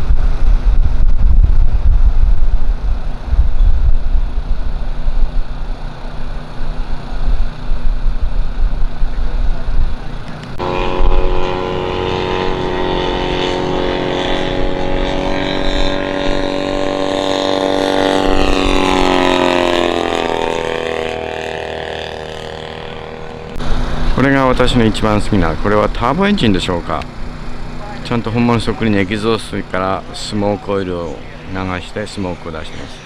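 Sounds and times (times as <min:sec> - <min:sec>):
wind rumble on microphone: 0:00.0 - 0:29.8
model airplane engine drone: 0:00.0 - 0:33.0.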